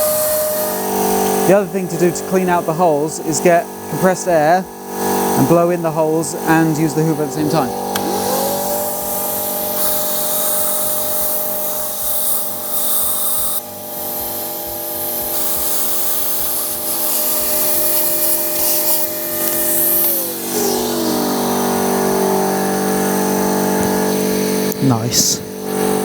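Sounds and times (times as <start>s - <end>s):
compressed air hissing: 0.0s - 26.0s
vacuum cleaner motor: 0.0s - 26.0s.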